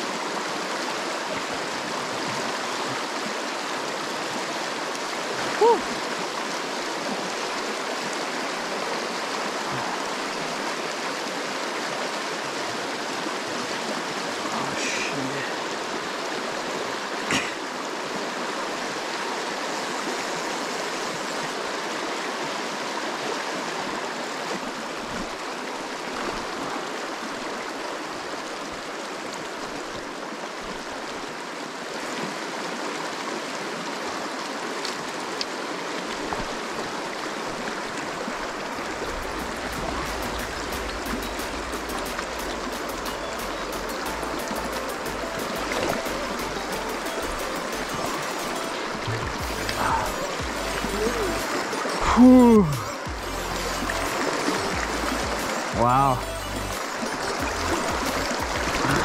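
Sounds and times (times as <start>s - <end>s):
shallow river running over rocks: 0.0s - 59.0s.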